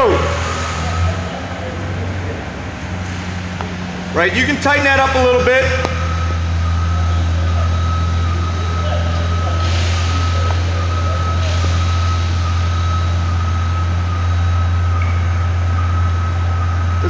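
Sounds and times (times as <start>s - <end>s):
loud mechanical hum: 0.0s - 17.0s.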